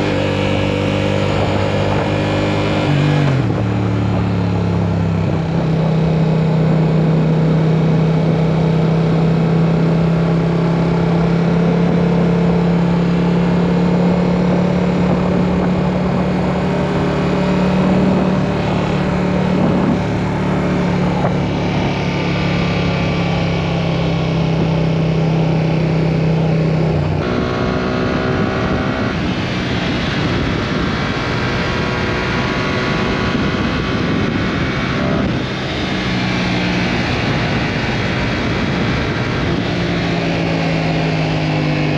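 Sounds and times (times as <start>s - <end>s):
motorcycle engine cruising: 0.0s - 41.9s
wind rush: 0.0s - 41.9s.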